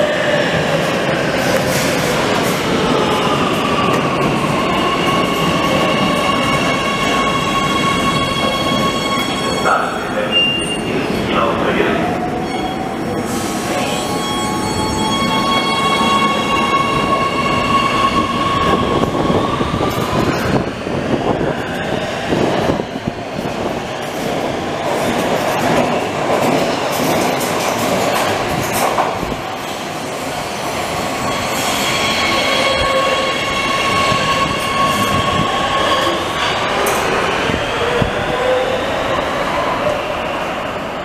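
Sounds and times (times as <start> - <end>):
train cars rumbling on track: 0.0 - 41.0.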